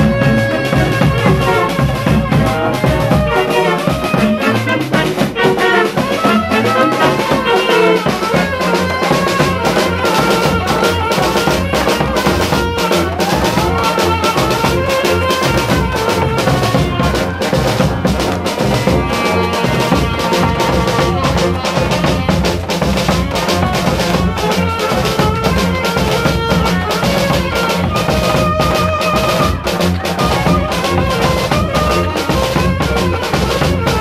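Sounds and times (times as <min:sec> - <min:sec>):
snare drum and cymbal beat: 0:00.0 - 0:34.0
sousaphone bass line: 0:00.0 - 0:34.0
trumpets playing melody: 0:00.0 - 0:34.0.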